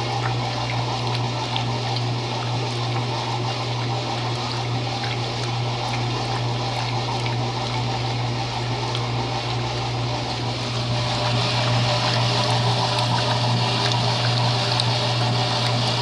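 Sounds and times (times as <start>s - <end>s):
washing machine water rushing: 0.0s - 16.0s.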